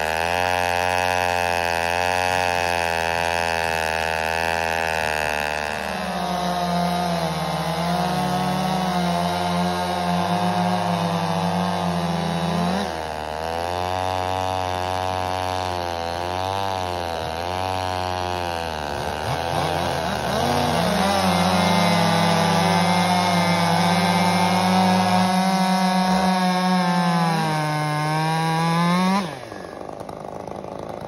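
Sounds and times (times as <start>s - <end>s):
chainsaws cutting log: 0.0s - 31.0s.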